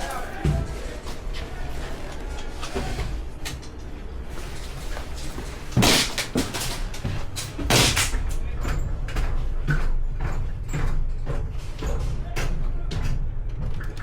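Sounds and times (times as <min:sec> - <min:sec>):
low rumble of movement: 0:00.0 - 0:14.0.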